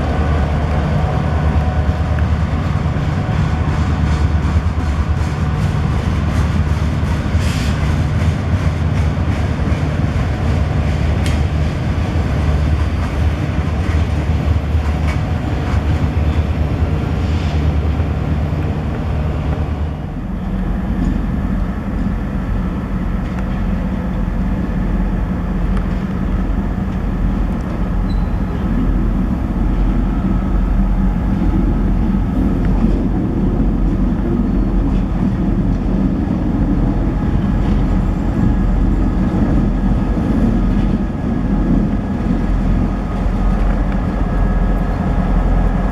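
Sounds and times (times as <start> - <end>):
train engine rumble: 0.0 - 45.9.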